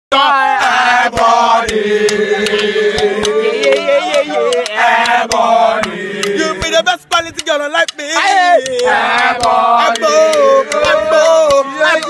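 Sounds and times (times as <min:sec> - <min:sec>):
boys chanting a song: 0:00.1 - 0:07.0, 0:07.8 - 0:12.0
sharp taps: 0:01.1 - 0:12.0.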